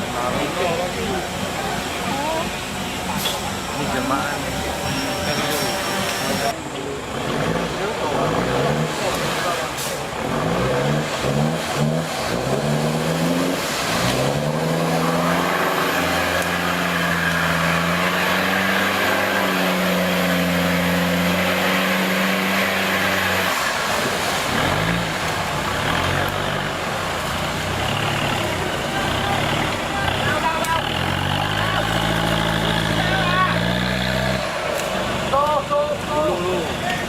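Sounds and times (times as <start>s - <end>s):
engine revving: 3.8s - 35.4s.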